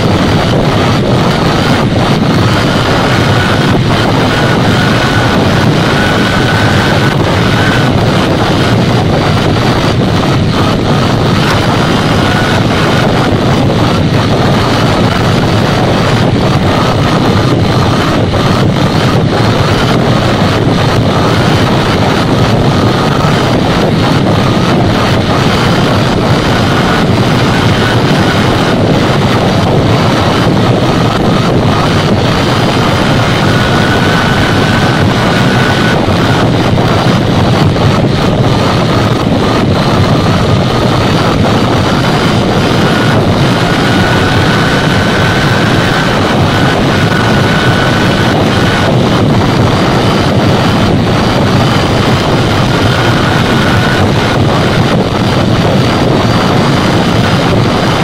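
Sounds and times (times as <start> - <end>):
faint steady whine: 0.0 - 58.0
vehicle road noise: 0.0 - 58.0
wind on microphone: 0.0 - 58.0.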